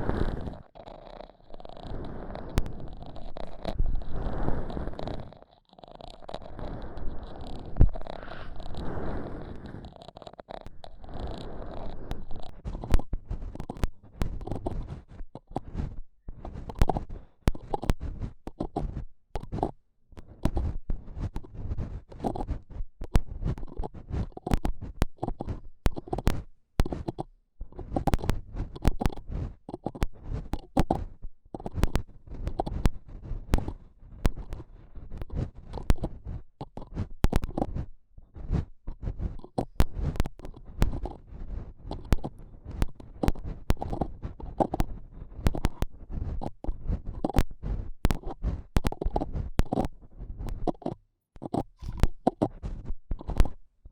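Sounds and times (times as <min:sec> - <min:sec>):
rubbing on microphone: 0:00.0 - 0:53.9
sharp ticks: 0:04.7 - 0:15.7, 0:16.6 - 0:19.8, 0:20.4 - 0:37.8, 0:38.6 - 0:41.2, 0:41.8 - 0:47.5, 0:48.1 - 0:53.6.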